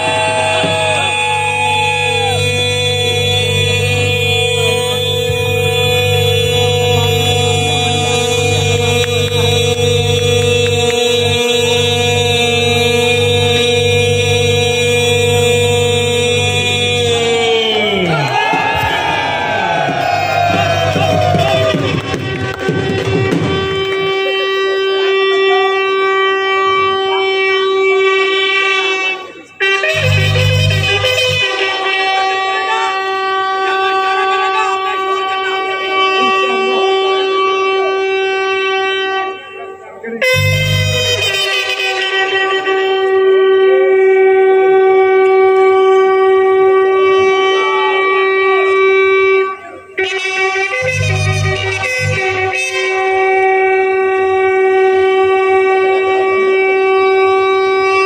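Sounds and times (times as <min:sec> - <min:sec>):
bugle holding a long note: 0:00.0 - 0:58.0.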